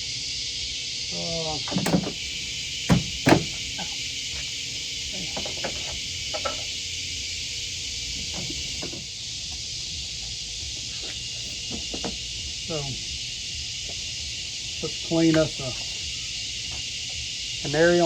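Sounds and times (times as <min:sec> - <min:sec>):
steady hiss: 0:00.2 - 0:18.0.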